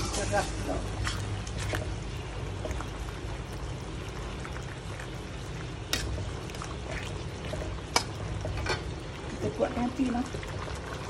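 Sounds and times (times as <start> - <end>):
curry simmering in a wok: 0.0 - 11.0.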